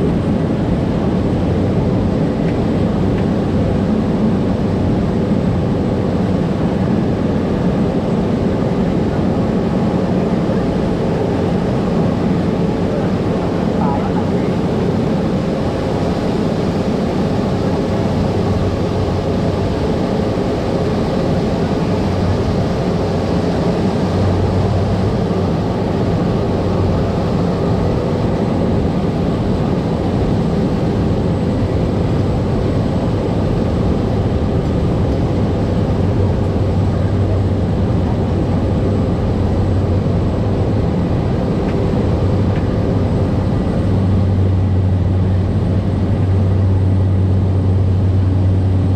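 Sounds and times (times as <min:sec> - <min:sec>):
turboprop engine drone: 0:00.0 - 0:48.9.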